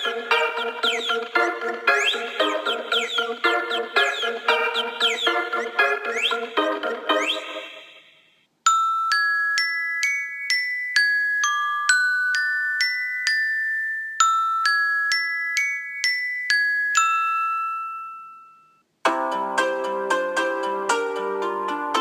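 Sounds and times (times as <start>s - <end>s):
bell-like ringtone melody: 0.0s - 7.9s, 8.7s - 22.0s.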